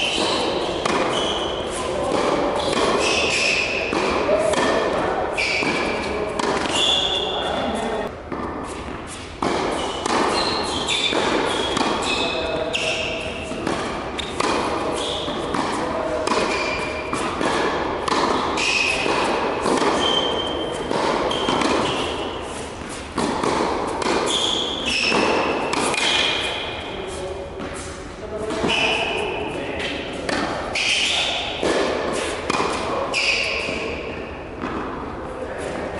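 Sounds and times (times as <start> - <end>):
shoes squeaking on court: 0.0 - 17.5, 18.1 - 34.8
tennis ball bouncing: 0.0 - 27.9, 28.5 - 35.8
racket striking ball: 0.0 - 35.9.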